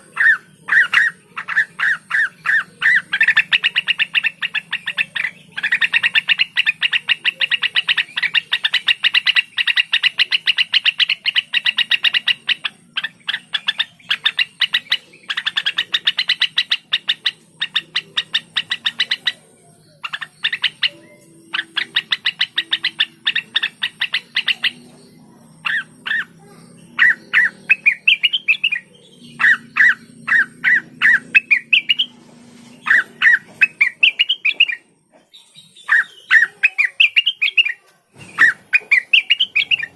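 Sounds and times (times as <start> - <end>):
songbird whistled phrases: 0.0 - 25.0, 25.6 - 32.2, 32.9 - 39.9
songbird sharp repeated chirps: 0.0 - 39.9.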